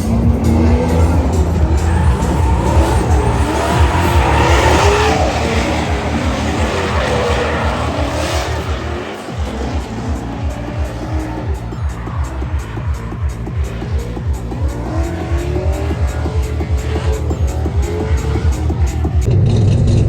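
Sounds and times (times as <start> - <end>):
tires squealing: 0.0 - 19.9
car engine revving high: 0.0 - 20.0.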